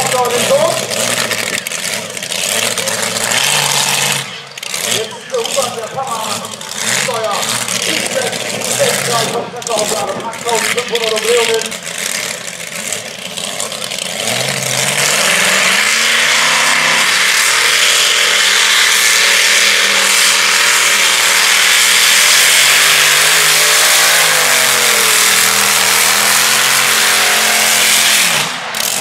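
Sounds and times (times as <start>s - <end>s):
tractor engine revving at full throttle: 0.0s - 29.0s.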